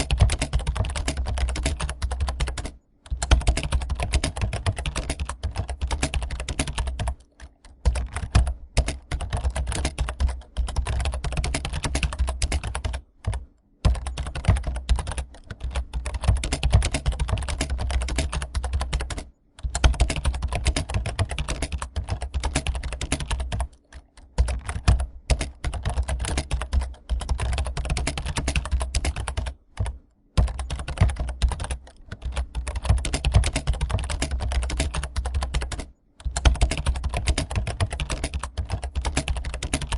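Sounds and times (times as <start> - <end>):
keyboard typing clatter: 0.0 - 39.9.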